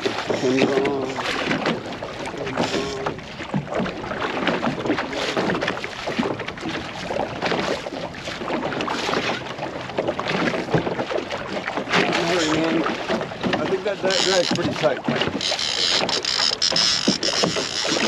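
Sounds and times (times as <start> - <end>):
waves slapping a metal hull: 0.0 - 18.0.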